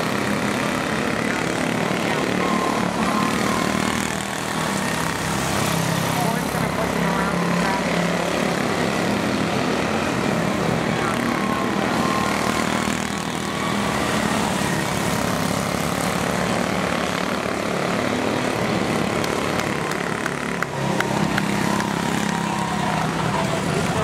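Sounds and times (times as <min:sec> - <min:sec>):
small race car engines buzzing: 0:00.0 - 0:24.0.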